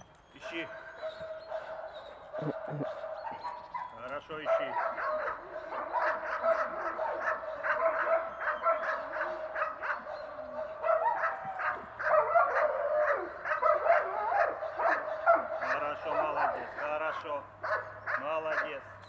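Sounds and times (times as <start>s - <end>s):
dogs barking and yelping: 0.1s - 18.9s.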